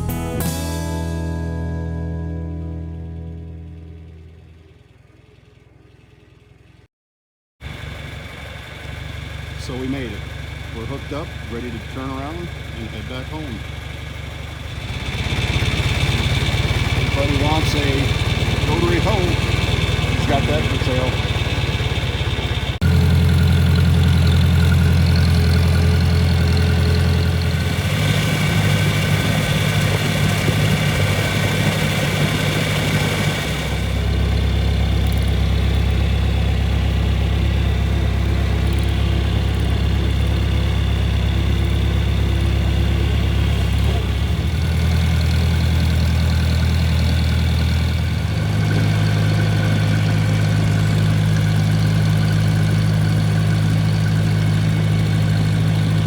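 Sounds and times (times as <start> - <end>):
tractor engine running: 2.2 - 6.9, 7.6 - 56.0.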